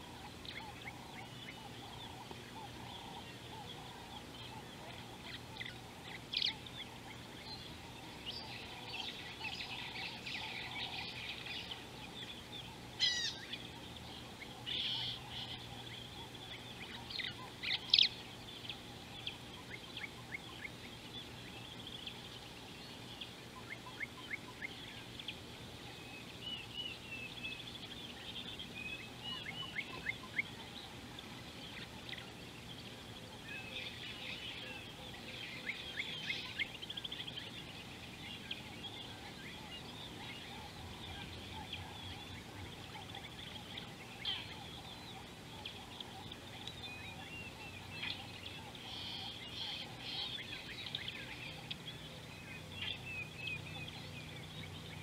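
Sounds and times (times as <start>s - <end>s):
birds chirping and trilling: 0.0s - 55.0s
faint steady background noise: 0.0s - 55.0s.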